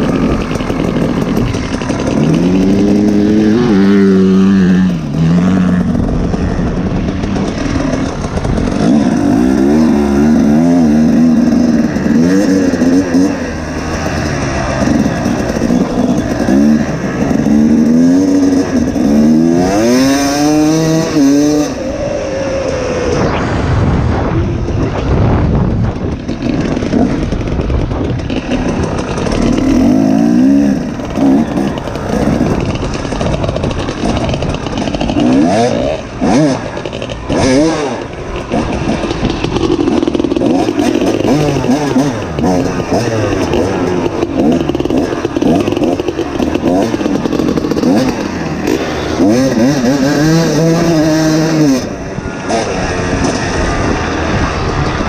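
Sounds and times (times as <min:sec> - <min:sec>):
dirt bike engine revving: 0:00.0 - 0:55.0
low rumble of wind: 0:00.0 - 0:55.0.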